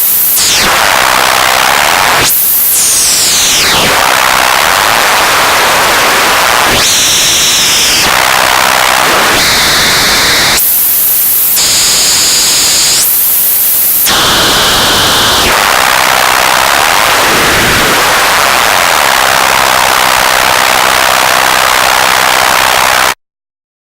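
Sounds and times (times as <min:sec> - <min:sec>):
radio static crackling: 0:00.0 - 0:23.2.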